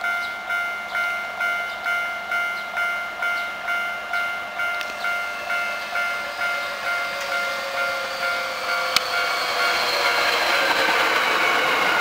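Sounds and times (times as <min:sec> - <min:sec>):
level crossing bell ringing: 0:00.0 - 0:10.6
electric train passing: 0:00.0 - 0:12.0
train whine: 0:00.0 - 0:12.0.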